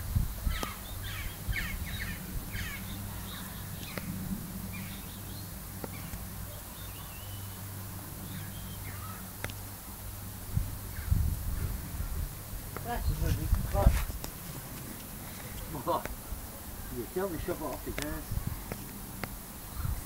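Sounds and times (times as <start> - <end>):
steady low hum: 0.0 - 20.0
small birds chirping: 0.4 - 20.0.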